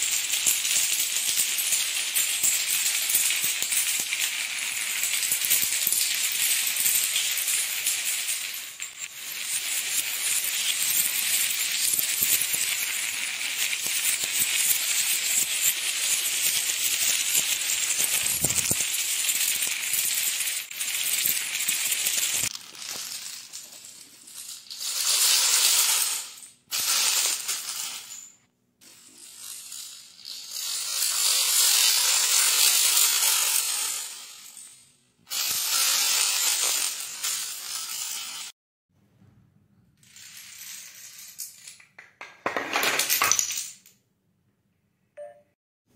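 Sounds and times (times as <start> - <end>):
dominoes clattering on tiled floor: 0.0 - 38.6, 40.0 - 44.0.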